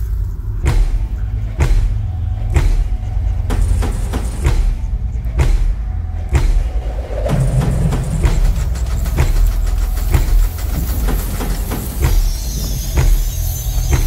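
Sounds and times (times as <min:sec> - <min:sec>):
music with deep bass beat: 0:00.0 - 0:14.0.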